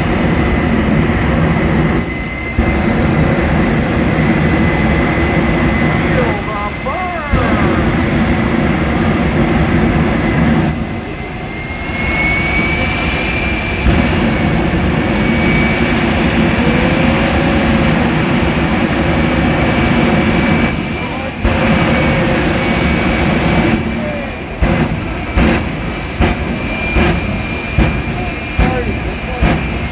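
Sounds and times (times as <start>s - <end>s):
jet engine roaring: 0.0s - 29.9s.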